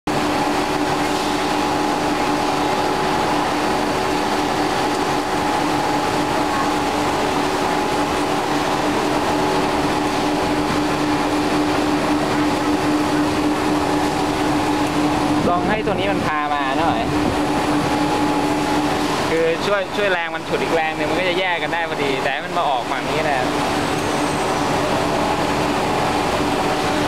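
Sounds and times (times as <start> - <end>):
belt-cutting machine humming: 0.1 - 27.0.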